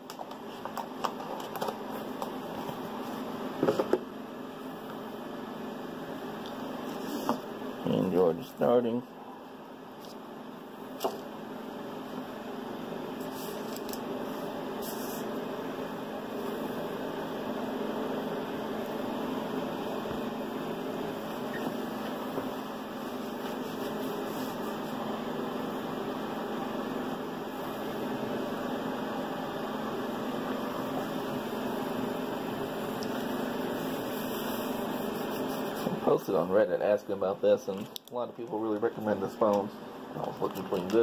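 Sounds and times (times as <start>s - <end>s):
mechanical whir with hum: 0.0s - 41.0s.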